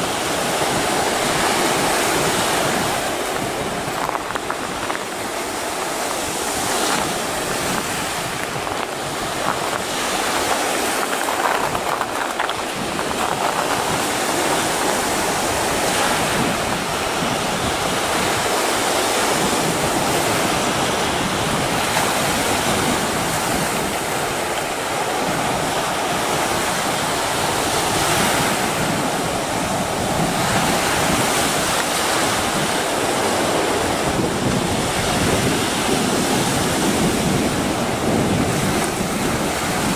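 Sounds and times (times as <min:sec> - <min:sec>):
waves breaking on rocks: 0:00.0 - 0:39.9.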